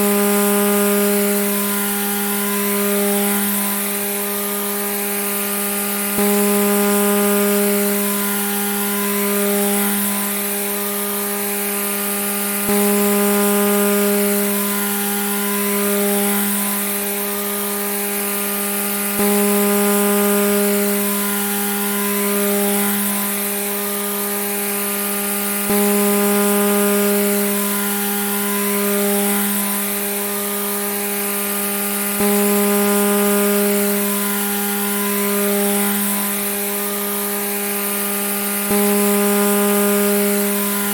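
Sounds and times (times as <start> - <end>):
grass trimmer motor running: 0.0 - 40.9.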